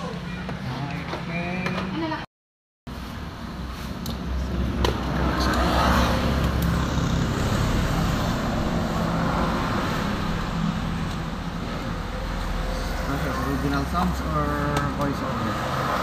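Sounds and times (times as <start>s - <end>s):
vehicle engine humming: 2.9s - 16.0s.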